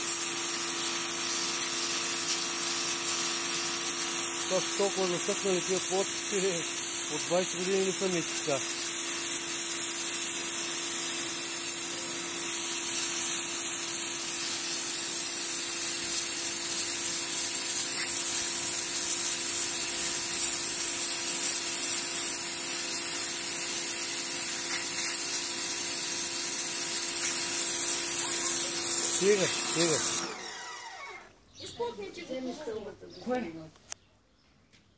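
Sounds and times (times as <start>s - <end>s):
water jet spraying on tiles: 0.0s - 30.3s
pressure washer motor hum: 0.0s - 31.3s.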